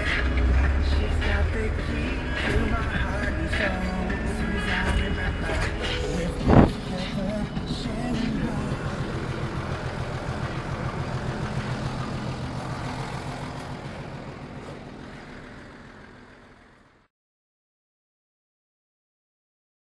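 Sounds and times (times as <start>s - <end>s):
tractor diesel engine running: 0.0s - 17.1s.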